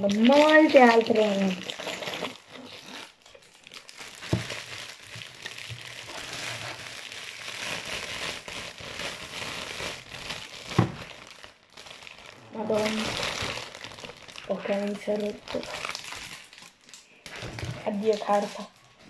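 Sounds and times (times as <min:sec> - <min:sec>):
wrapper crinkling: 0:00.0 - 0:19.0.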